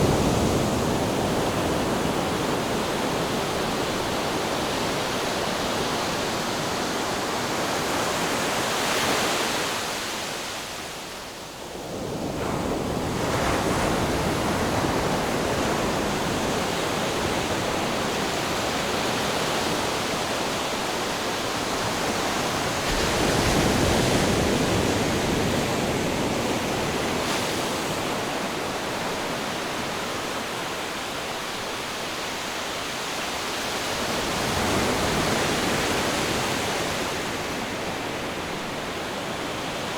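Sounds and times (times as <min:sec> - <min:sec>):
waves washing on shore: 0:00.0 - 0:39.9.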